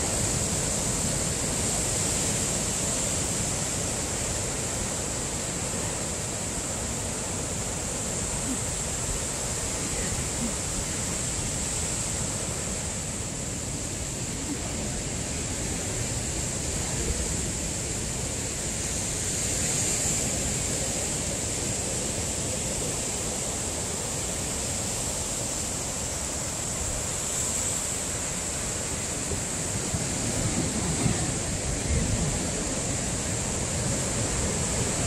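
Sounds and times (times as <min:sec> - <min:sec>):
ocean surf breaking over rocks: 0:00.0 - 0:35.0.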